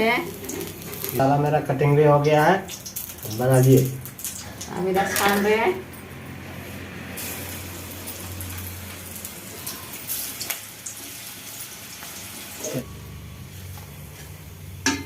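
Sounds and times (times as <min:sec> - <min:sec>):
food sizzling in hot oil: 0:00.0 - 0:05.7, 0:06.4 - 0:12.8.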